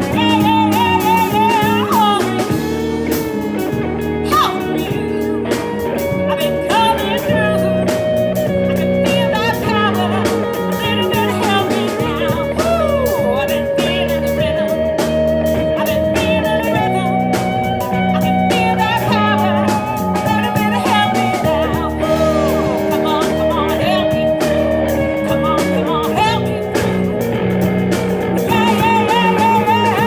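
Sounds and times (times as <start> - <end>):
band playing instrumental: 0.0 - 30.0
drums keeping steady beat: 0.0 - 30.0.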